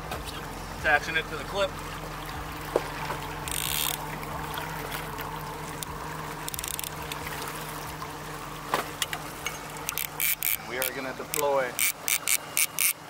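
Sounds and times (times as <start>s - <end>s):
outboard motor running: 0.0s - 13.0s
water splashing and trickling: 0.0s - 13.0s.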